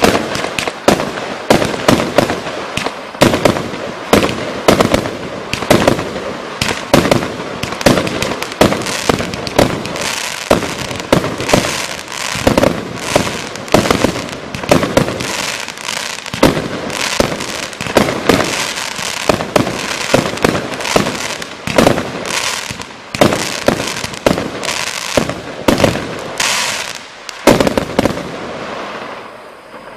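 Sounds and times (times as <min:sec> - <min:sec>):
fireworks banging: 0:00.0 - 0:29.9
steady hiss: 0:00.0 - 0:29.9.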